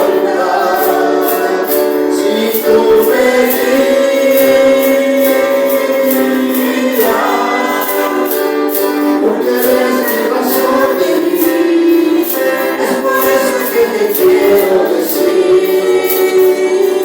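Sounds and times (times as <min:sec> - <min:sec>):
tambourine beat: 0:00.0 - 0:17.0
voices singing praise song: 0:00.0 - 0:17.0.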